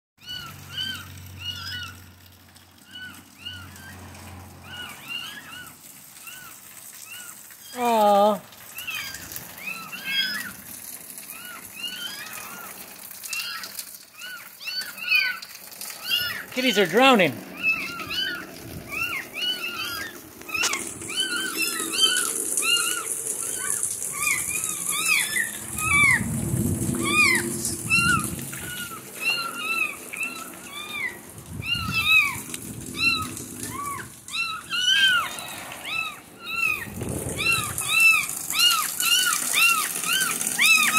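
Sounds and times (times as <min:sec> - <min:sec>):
kittens mewing: 0:04.6 - 0:40.9.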